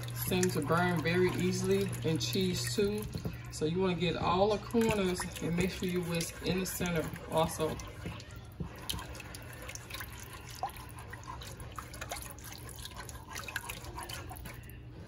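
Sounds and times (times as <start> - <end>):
whisk clicking on pot: 0.0 - 14.9
whisk swishing liquid: 0.0 - 15.0.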